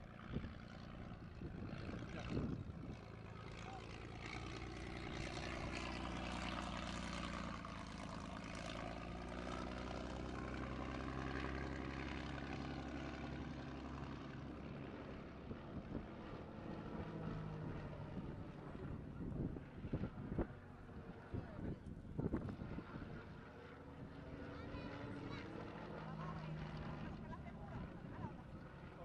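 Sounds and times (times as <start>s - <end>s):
propeller engine droning: 0.0s - 29.0s.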